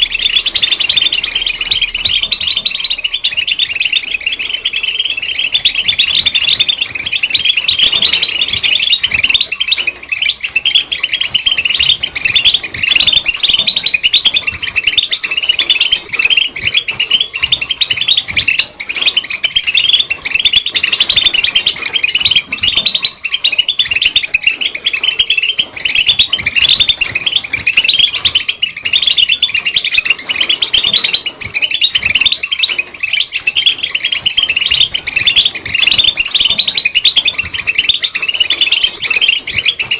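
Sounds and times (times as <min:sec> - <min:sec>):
finch twittering song: 0:00.0 - 0:39.9.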